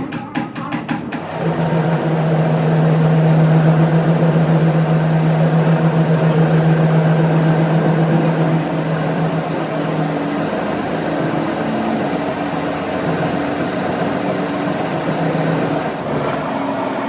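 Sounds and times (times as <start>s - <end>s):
machine motor humming: 1.0s - 17.0s.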